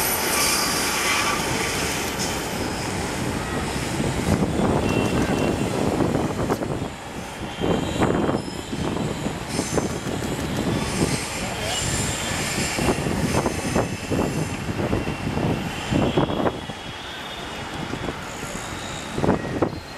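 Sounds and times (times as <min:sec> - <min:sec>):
train rolling rumble: 0:00.0 - 0:19.9.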